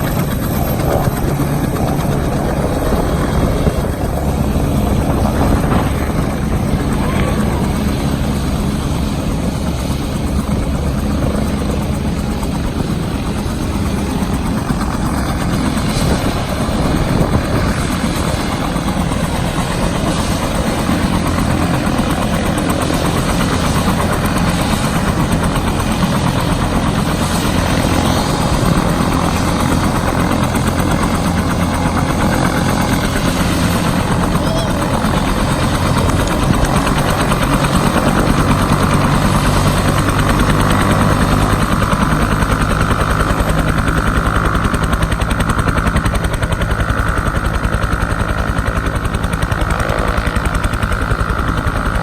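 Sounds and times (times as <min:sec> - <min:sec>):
helicopter engine and rotor: 0:00.0 - 0:52.0.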